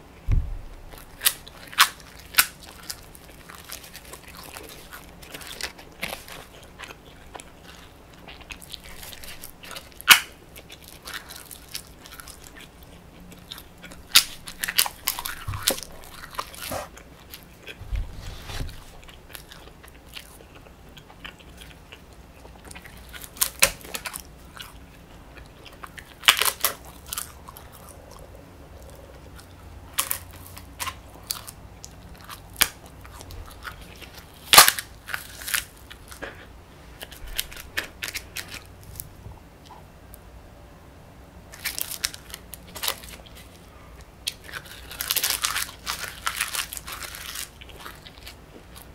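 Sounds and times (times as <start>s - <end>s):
soft crunching chewing: 0.6s - 40.3s, 41.5s - 48.9s.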